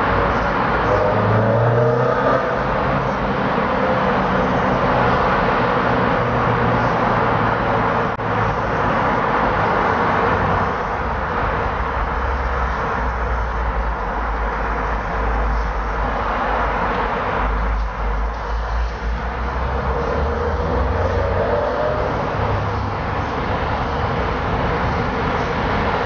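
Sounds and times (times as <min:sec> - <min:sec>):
tyres and wind rushing: 0:00.0 - 0:26.0.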